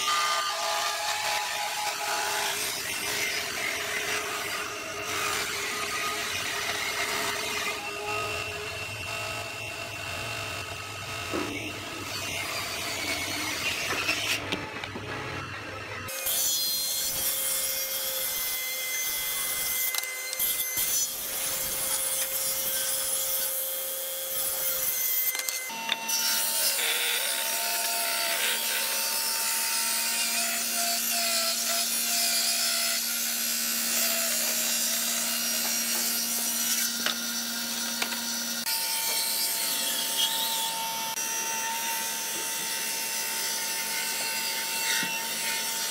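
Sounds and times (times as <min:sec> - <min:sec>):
table saw cutting wood: 0:00.0 - 0:45.9.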